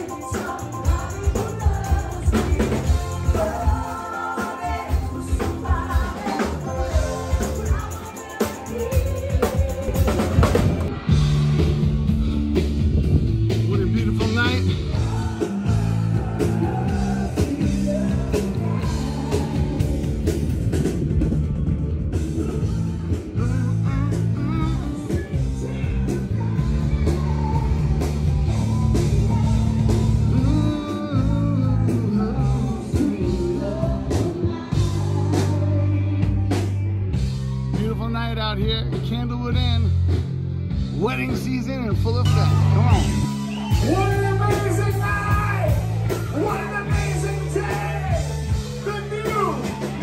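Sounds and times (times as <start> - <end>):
rock music with singer: 0.0 - 50.0.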